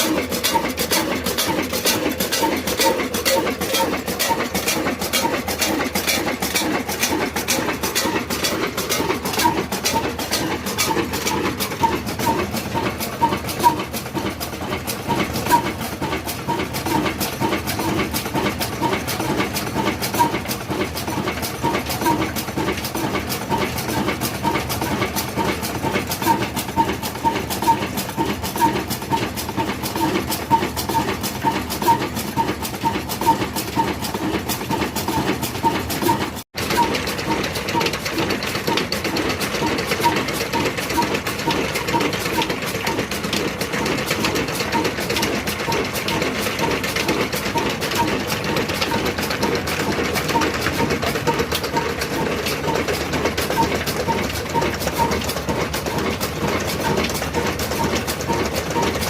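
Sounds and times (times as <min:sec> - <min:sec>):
diesel engine clattering: 0:00.0 - 0:59.0.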